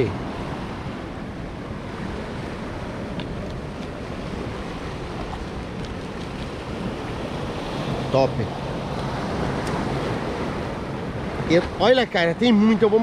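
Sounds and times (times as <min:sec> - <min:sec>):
sea surf on rocky shore: 0:00.0 - 0:13.0
wind: 0:00.0 - 0:13.0
wind rumbling on microphone: 0:00.0 - 0:13.0.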